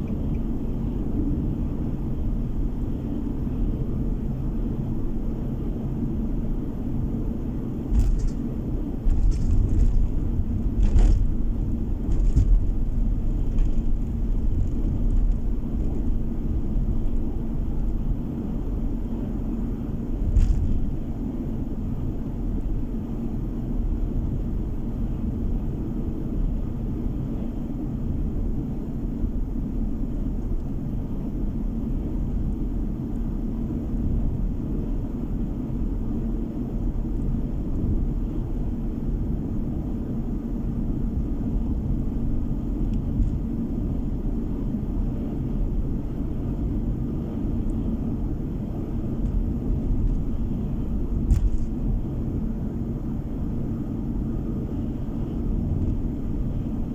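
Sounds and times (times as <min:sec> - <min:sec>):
car interior road rumble: 0:00.0 - 0:56.9.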